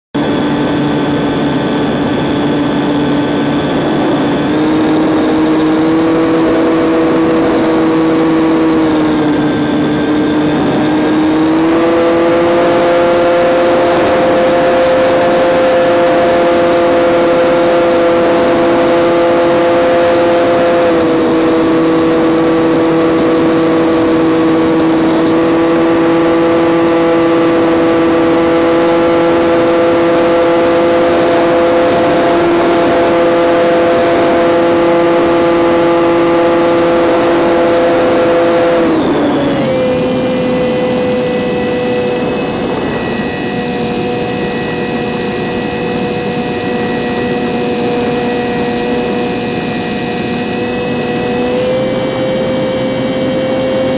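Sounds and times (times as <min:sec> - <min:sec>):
drone propellers whining: 0:00.2 - 0:53.9.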